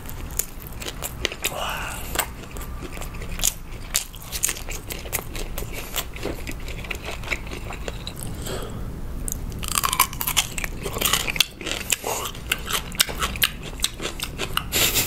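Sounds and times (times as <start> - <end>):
loud crunching of pickle: 0.0 - 8.6, 9.2 - 15.0
chewing crisp sausage: 0.0 - 15.0.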